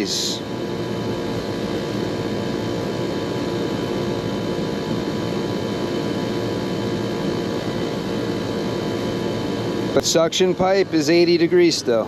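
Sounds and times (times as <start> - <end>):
air conditioning unit droning: 0.0 - 12.0.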